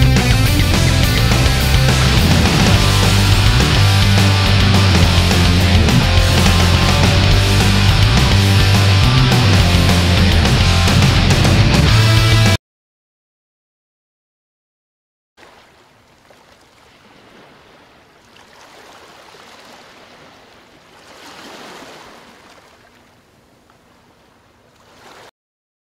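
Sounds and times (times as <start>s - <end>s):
ocean waves washing: 0.3s - 11.4s, 15.4s - 25.3s.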